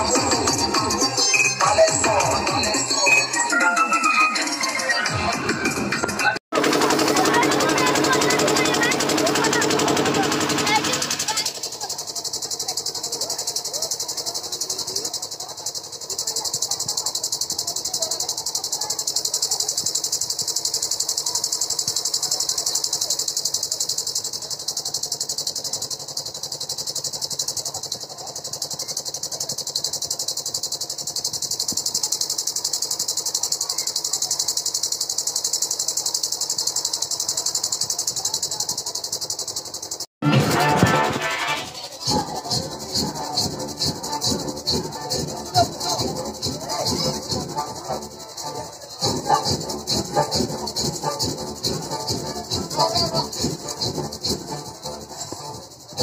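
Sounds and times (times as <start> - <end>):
murmur of crowd voices: 0.0 - 56.0
crickets chirring: 7.2 - 40.1, 41.3 - 56.0.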